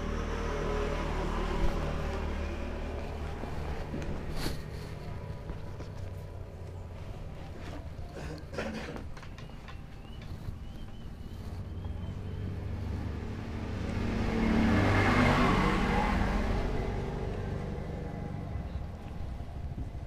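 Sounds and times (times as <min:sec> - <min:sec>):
vehicle passing by: 0:00.0 - 0:08.1, 0:10.1 - 0:20.0.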